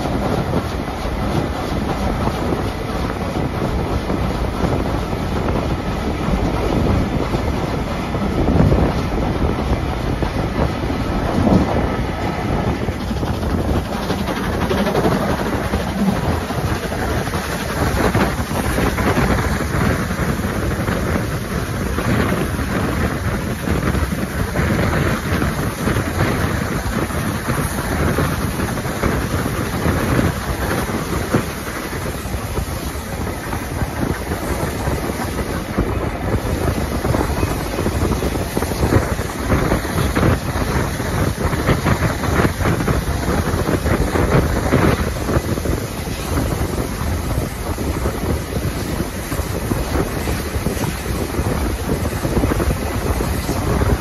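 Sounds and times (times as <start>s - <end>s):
train wheels rumbling on rails: 0.0s - 54.0s
wind on microphone: 0.0s - 54.0s.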